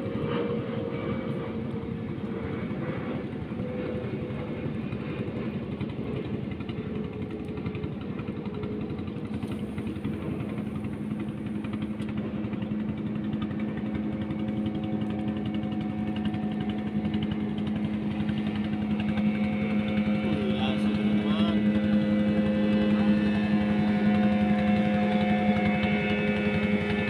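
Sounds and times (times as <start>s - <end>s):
engine droning: 0.0s - 27.0s.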